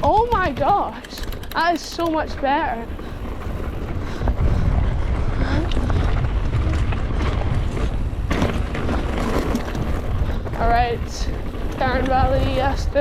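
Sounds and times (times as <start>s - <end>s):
bike clattering on trail: 0.0s - 13.0s
wind buffeting microphone: 0.0s - 13.0s.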